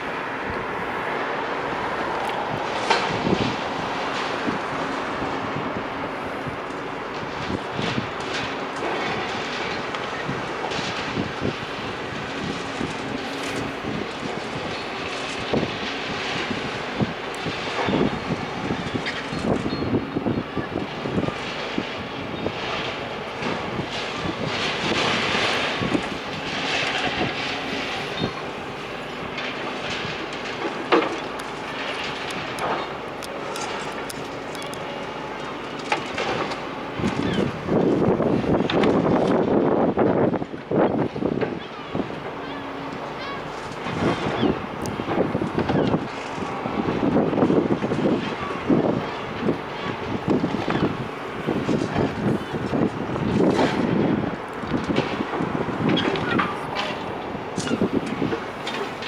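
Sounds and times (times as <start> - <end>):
heavy machine engine running: 0.0 - 59.0.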